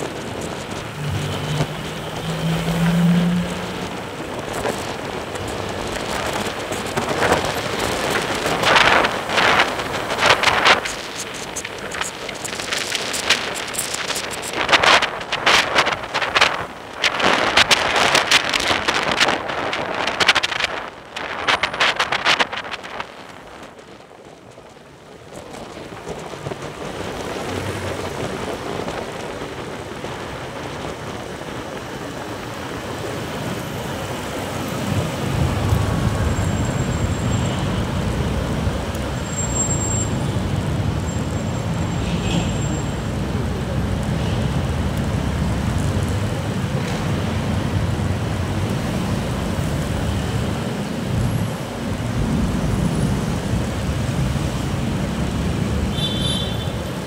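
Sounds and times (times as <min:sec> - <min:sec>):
low rumble of engines: 0:00.0 - 0:57.0
tyres and wind rushing: 0:00.0 - 0:57.0.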